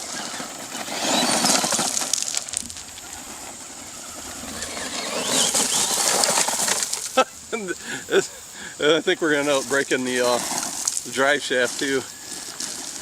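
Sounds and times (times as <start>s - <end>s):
toy truck crunching over gravel: 0.0s - 13.0s.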